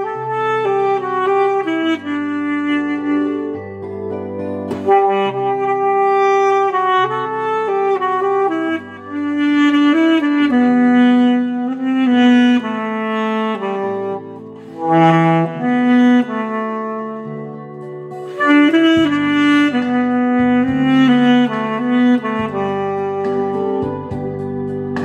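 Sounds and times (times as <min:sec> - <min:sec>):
backing accompaniment with bass: 0:00.0 - 0:25.0
saxophone melody: 0:00.0 - 0:25.0.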